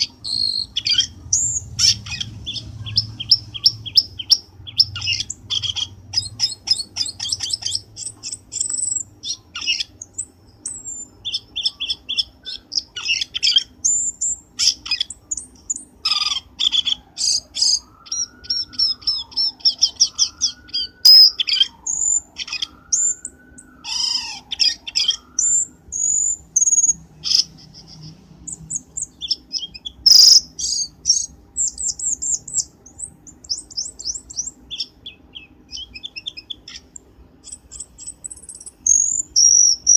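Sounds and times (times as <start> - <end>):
bird chirps trills and whistles: 0.0 - 39.9.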